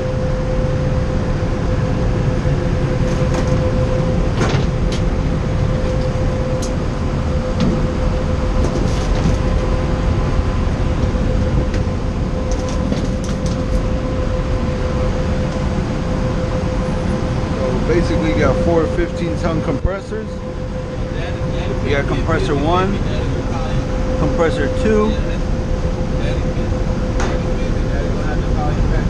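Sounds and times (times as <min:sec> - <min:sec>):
hvac machinery drone: 0:00.0 - 0:29.0.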